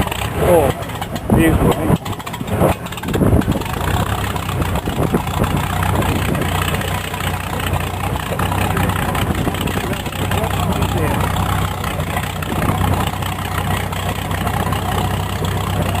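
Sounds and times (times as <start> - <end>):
aircraft engine starting and idling: 0.0 - 16.0.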